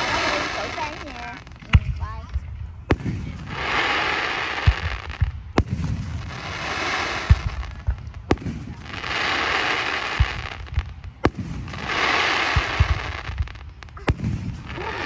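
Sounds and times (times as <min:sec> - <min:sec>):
fireworks hissing: 0:00.0 - 0:02.3, 0:02.9 - 0:15.0
fireworks booming: 0:00.0 - 0:15.0
fireworks cracking: 0:00.0 - 0:15.0.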